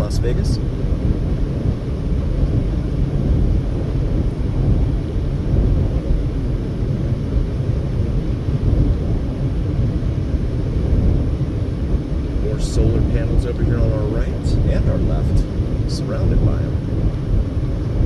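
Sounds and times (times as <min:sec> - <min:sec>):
car driving at highway speed: 0:00.0 - 0:18.0.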